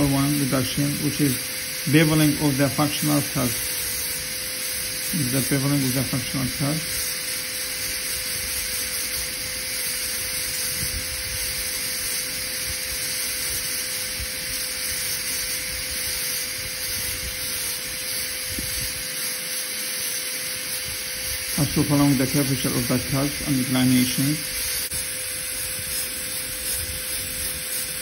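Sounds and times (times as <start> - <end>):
dental drill hissing: 0.0 - 28.0.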